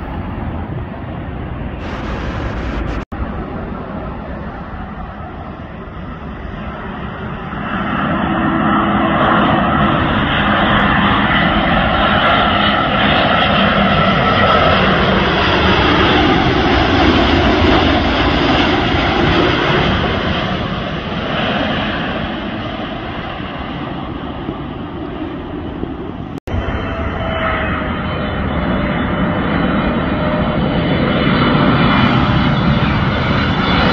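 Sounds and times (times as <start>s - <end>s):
jet engines passing overhead: 0.0s - 33.9s.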